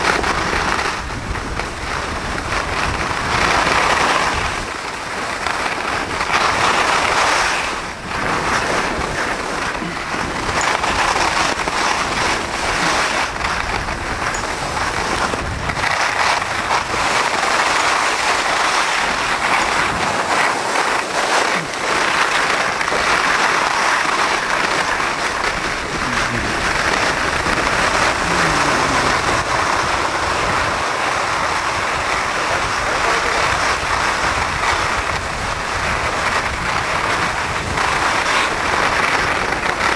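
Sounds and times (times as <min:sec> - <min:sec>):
skis scraping over snow: 0:00.0 - 0:39.9
wind across microphone: 0:00.0 - 0:39.9.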